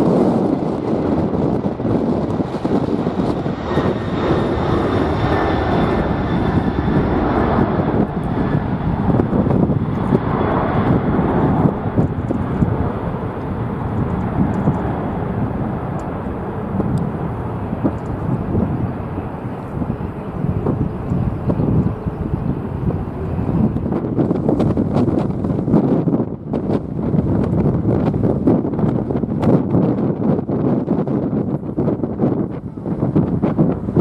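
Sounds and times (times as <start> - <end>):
jet engines of passing plane: 0.0 - 34.0
wind buffeting microphone: 0.0 - 34.0.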